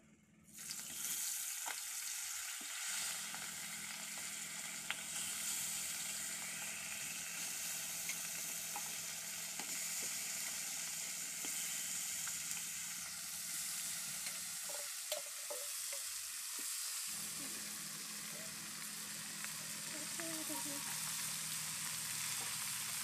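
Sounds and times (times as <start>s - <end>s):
fish sizzling in hot oil: 0.5s - 23.0s.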